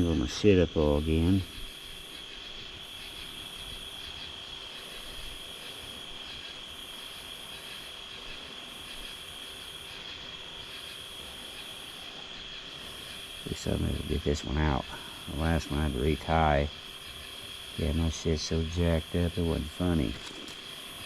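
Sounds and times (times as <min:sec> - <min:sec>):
insect buzz pulsing: 0:00.0 - 0:21.0
insects trilling: 0:00.0 - 0:21.0.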